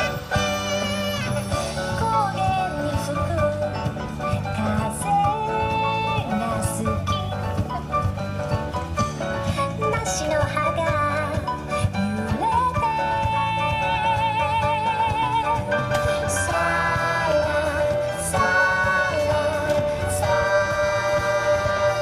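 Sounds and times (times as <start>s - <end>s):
dance song with vocals: 0.0s - 7.4s, 9.3s - 22.0s.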